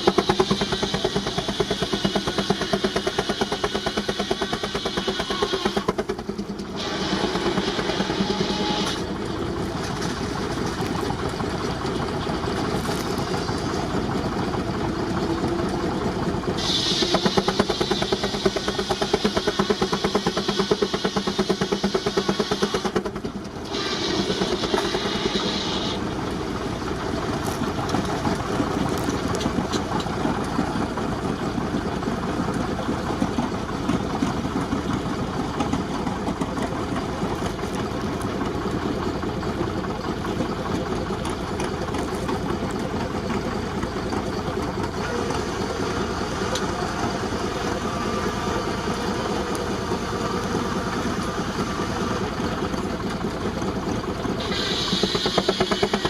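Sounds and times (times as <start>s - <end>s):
steam traction engine pulsing: 0.0s - 56.0s.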